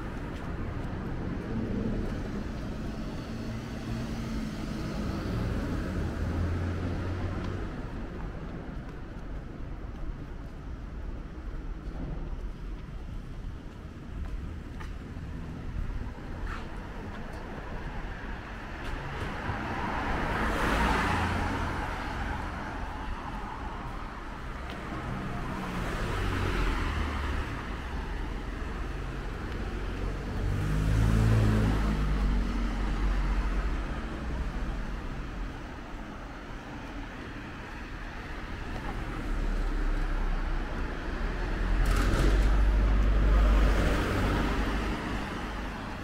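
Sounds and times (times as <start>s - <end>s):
road vehicles passing: 0.0s - 46.0s.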